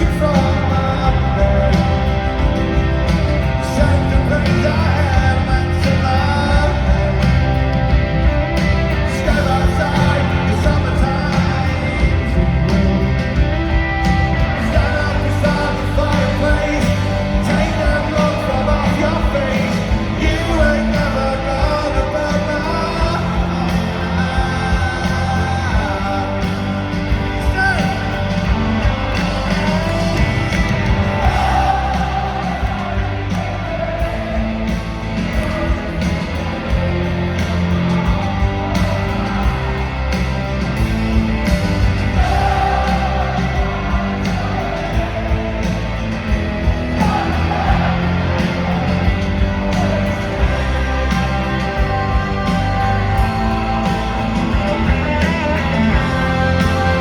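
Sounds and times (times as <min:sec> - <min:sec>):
crowd yelling and whooping: 0:00.0 - 0:57.0
live rock band with vocals: 0:00.0 - 0:57.0.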